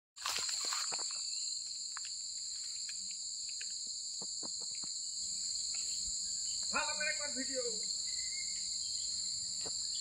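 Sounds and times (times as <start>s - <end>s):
insects droning: 0.2s - 10.0s.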